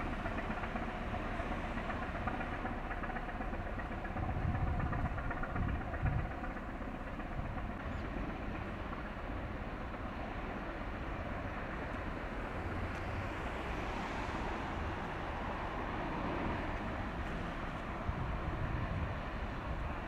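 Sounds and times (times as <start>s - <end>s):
outdoor rushing noise: 0.0s - 20.0s
ship low rumble: 0.0s - 20.0s.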